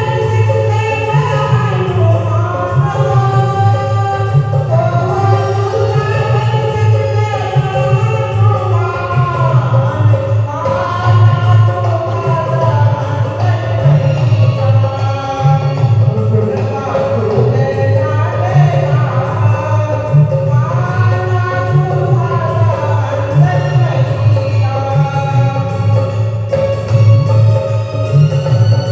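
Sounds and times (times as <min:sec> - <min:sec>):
musical accompaniment: 0:00.0 - 0:28.9.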